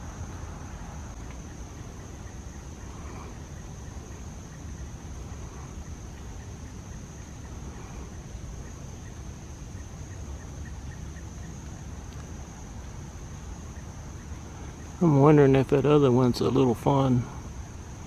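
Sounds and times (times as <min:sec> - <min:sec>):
insects buzzing: 0:00.0 - 0:18.0
faint chirps: 0:01.0 - 0:15.8.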